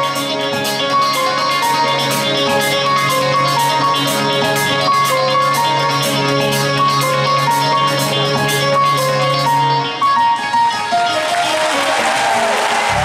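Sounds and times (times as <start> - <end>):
electric guitar: 0.0 - 11.8.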